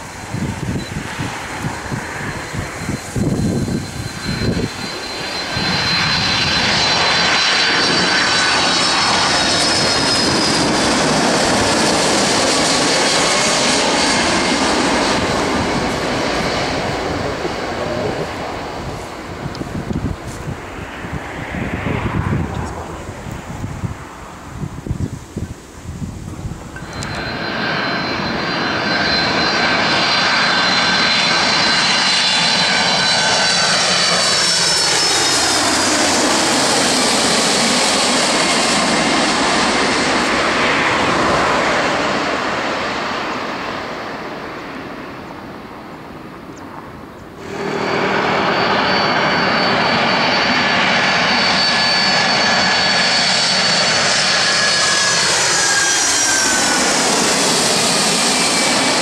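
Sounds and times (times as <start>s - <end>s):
jet airliner passing low: 0.0s - 59.0s.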